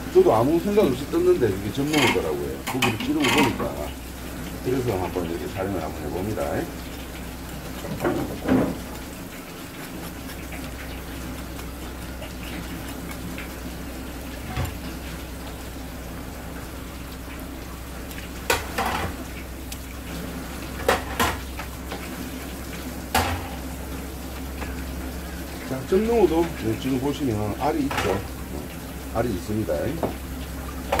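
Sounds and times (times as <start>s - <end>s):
tap water running: 0.0s - 31.0s.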